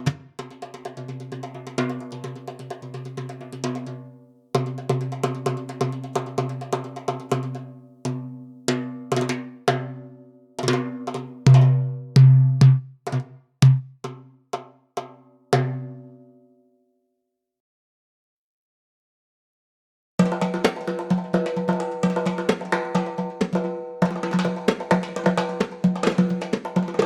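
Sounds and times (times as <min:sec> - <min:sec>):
hand drums playing rhythm: 0:00.0 - 0:09.9, 0:10.6 - 0:16.0, 0:20.2 - 0:27.0.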